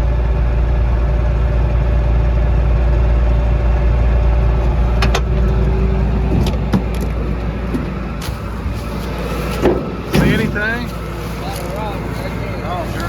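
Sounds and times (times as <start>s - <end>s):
combine engine humming: 0.0s - 13.0s.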